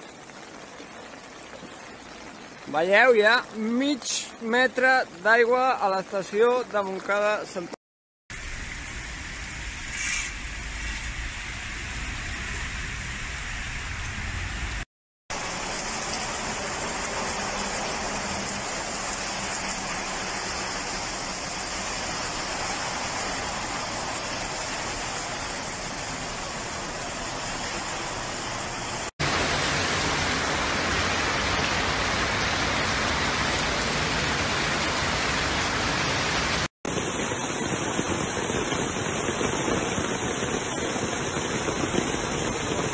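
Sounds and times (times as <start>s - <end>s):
heavy rain: 0.0s - 7.8s, 10.9s - 42.9s
running floodwater: 0.0s - 7.8s, 15.3s - 42.9s.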